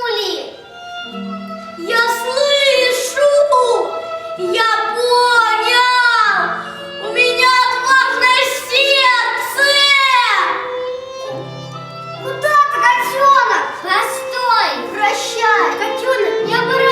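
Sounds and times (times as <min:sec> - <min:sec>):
child singing: 0:01.8 - 0:10.7, 0:12.2 - 0:16.9.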